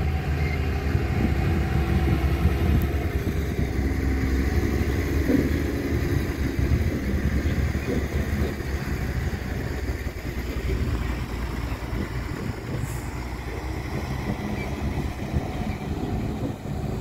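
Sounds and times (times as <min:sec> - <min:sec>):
diesel truck engines running: 0:00.0 - 0:17.0
wind buffeting microphone: 0:00.0 - 0:17.0.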